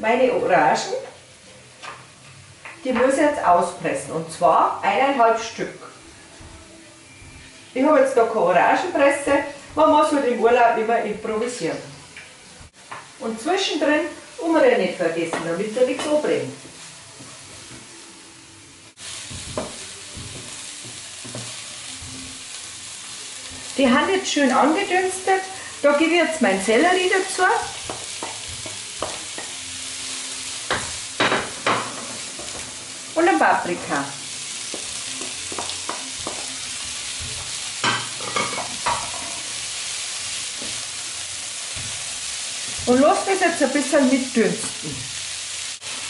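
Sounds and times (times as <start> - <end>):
onion and garlic sizzling in oil: 0.0 - 46.0.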